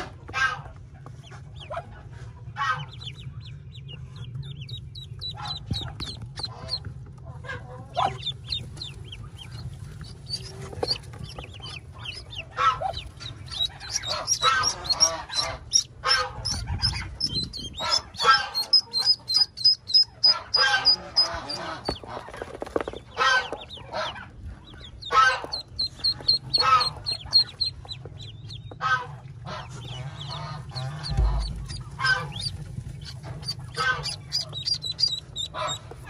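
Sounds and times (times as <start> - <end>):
ducklings peeping: 0.0 - 36.0.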